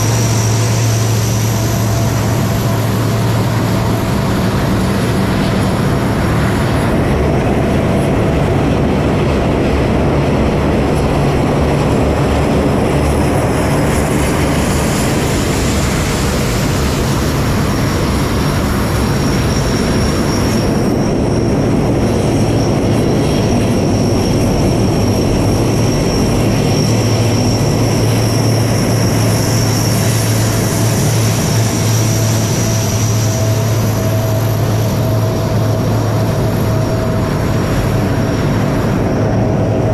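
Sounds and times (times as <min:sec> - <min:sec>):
high turbine whine: 0:00.0 - 0:39.9
propeller aircraft engines droning: 0:00.0 - 0:39.9.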